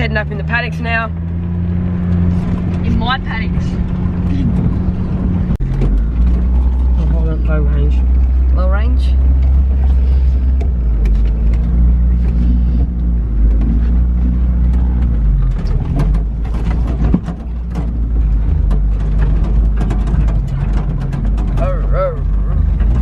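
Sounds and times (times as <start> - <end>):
vehicle engine running: 0.0 - 23.0
vehicle rattles and knocks: 0.0 - 23.0.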